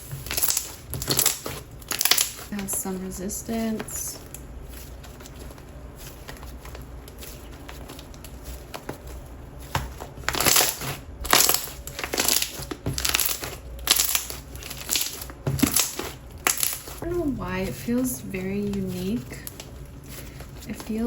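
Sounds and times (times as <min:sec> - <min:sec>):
slime squelching and popping: 0:00.0 - 0:02.7, 0:06.2 - 0:21.0.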